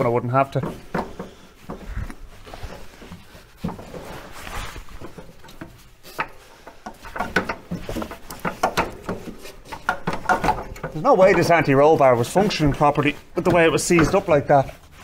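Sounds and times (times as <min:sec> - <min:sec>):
metal parts knocking and clunking: 0:00.0 - 0:15.0
metal scrape: 0:00.0 - 0:15.0.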